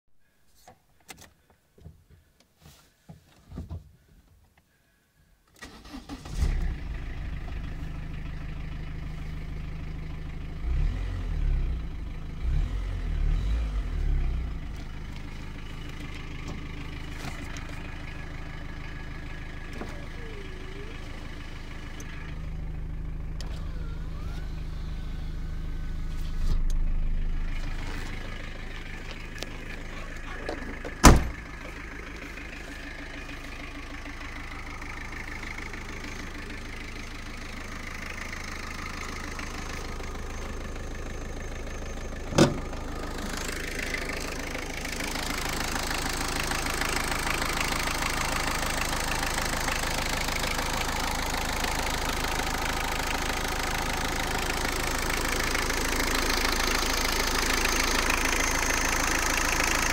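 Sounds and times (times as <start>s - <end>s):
diesel engine starting and idling: 4.9s - 59.9s
engine revving: 5.6s - 59.9s.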